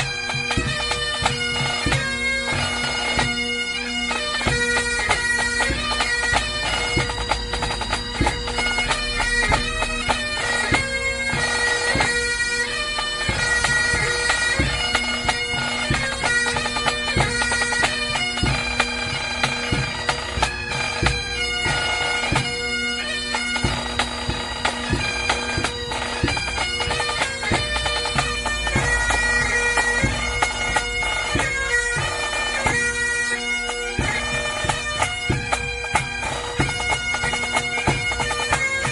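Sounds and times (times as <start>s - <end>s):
bagpipes playing a tune: 0.0s - 38.9s.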